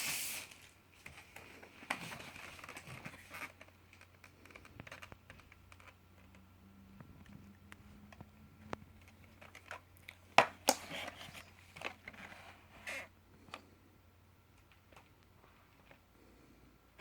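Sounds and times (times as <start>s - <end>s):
faint low hum: 0.6s - 17.0s.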